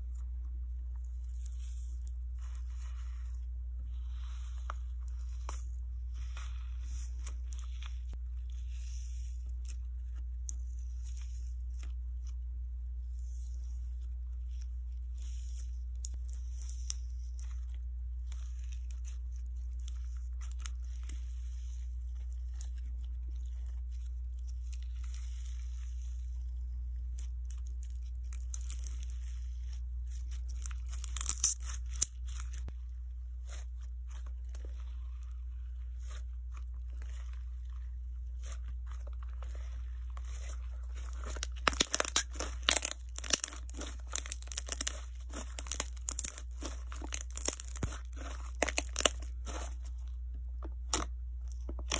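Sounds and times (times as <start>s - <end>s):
crackly sponge crunching: 0.0s - 51.9s.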